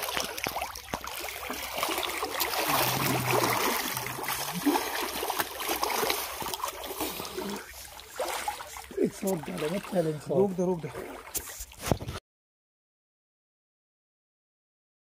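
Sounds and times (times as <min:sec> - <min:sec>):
water splashing and sloshing: 0:00.0 - 0:12.2.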